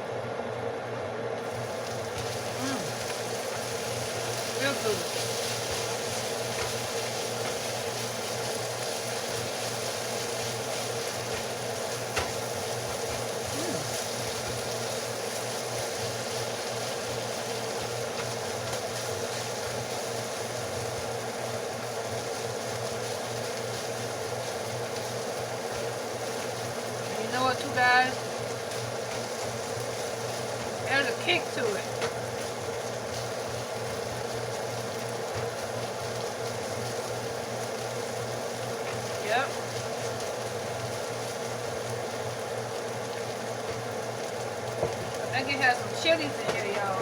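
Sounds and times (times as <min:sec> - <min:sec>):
appliance hum and whir: 0:00.0 - 0:47.0.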